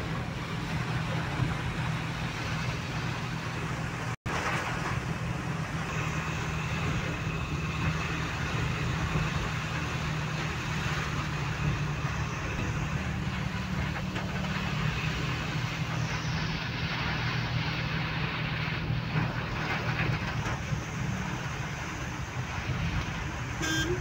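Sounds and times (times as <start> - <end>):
rain and wet road hiss: 0.0 - 24.0
vehicle engine hum: 0.0 - 24.0.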